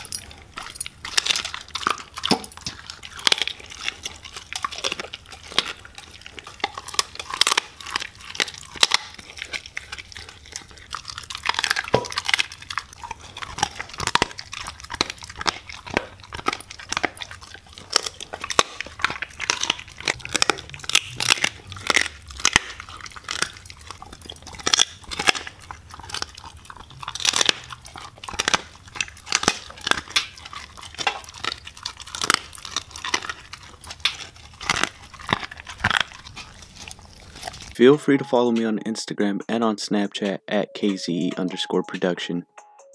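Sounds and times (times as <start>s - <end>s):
dog crunching meat: 0.0s - 37.9s.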